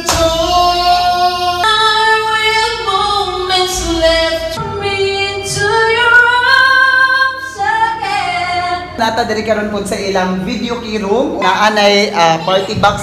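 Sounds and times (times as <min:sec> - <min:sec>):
high voice singing karaoke: 0:00.0 - 0:13.0.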